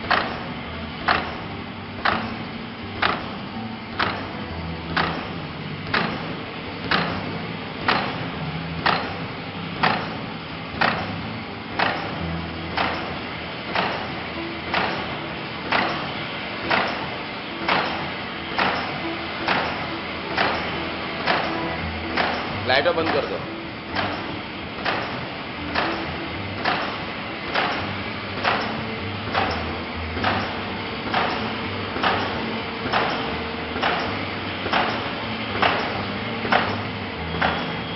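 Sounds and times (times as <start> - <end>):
machine clacking: 0.0 - 37.9
pneumatic cutting head striking: 0.0 - 37.9
steady machine hum: 0.0 - 37.9.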